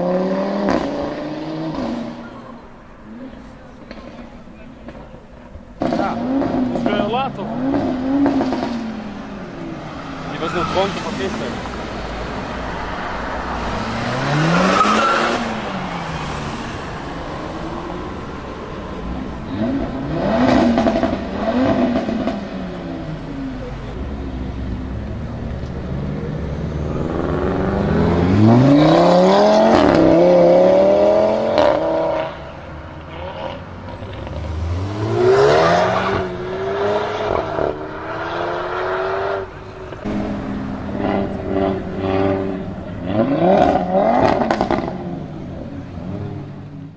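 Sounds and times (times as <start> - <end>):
car engine revving and accelerating: 0.0 - 46.9.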